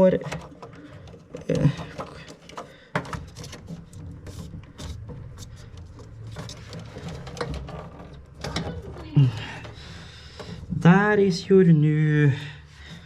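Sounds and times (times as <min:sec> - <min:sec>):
small parts clicking and rattling: 0:00.0 - 0:10.9.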